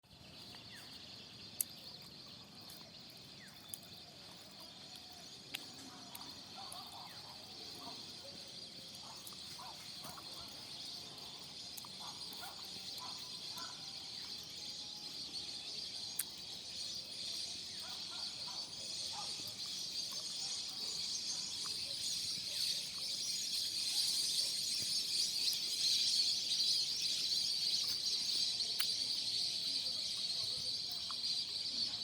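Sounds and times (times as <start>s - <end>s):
insect chorus: 0.0s - 32.0s.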